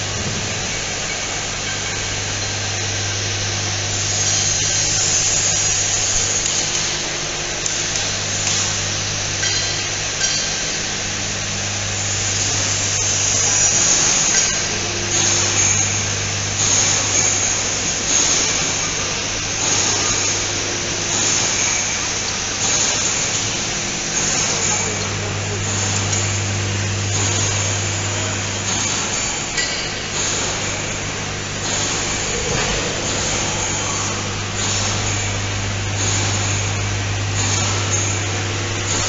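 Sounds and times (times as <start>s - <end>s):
high-pitched whirring hiss: 0.0s - 39.0s
low electrical hum: 0.0s - 39.0s.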